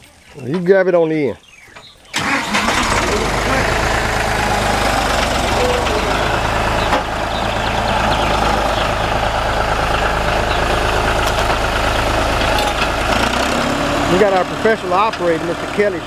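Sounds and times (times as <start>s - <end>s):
tractor diesel engine running: 2.2s - 16.0s.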